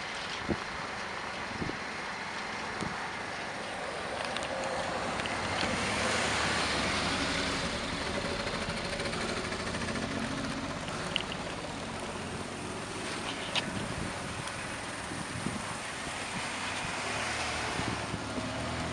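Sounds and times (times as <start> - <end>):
vehicle and wind rush: 0.0 - 18.9.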